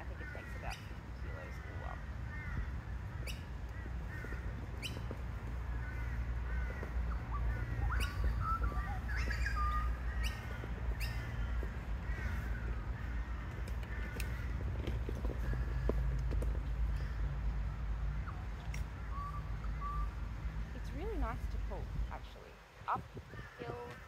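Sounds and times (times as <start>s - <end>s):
birds harsh calls: 0.0s - 24.0s.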